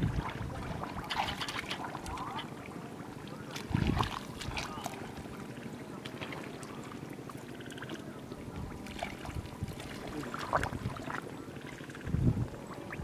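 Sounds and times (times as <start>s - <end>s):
hands sloshing in muddy water: 0.0s - 12.0s
water splashes: 0.0s - 13.0s.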